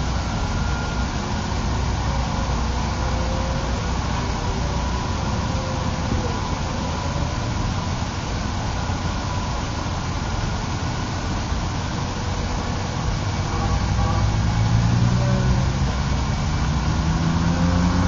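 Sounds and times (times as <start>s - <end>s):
model airplane motor whine: 0.0s - 18.0s
noisy rumble: 0.0s - 18.0s.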